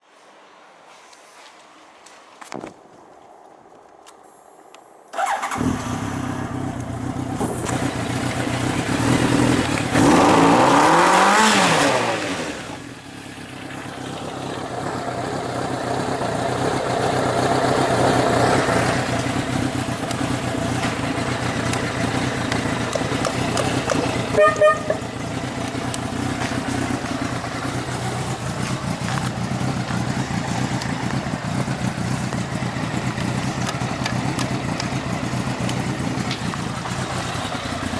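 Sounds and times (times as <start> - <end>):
motorcycle engine revving and idling: 5.2 - 37.9.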